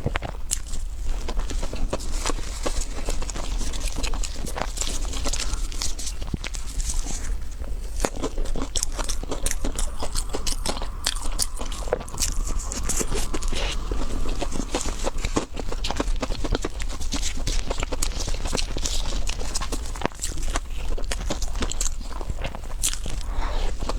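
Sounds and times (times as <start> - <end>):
close biting and chewing: 0.1 - 23.9.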